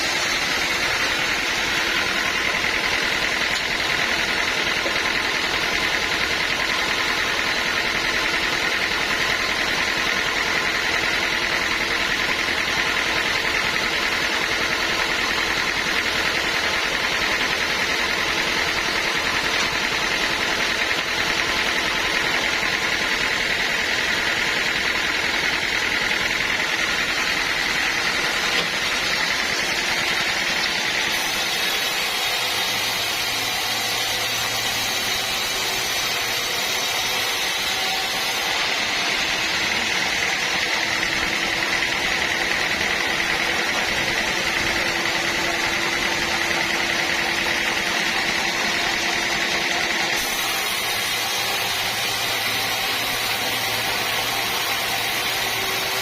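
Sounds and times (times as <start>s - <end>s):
high machine whine: 0.0s - 56.0s
sawmill machinery running: 0.0s - 56.0s.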